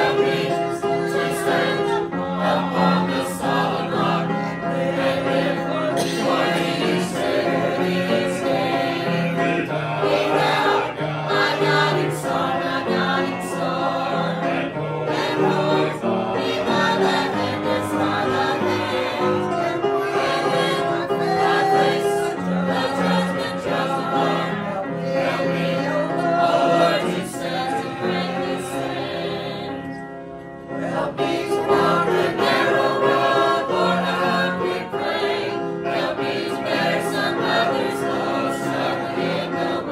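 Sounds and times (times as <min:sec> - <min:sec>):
choir singing a hymn: 0:00.0 - 0:39.9
musical accompaniment: 0:00.0 - 0:39.9.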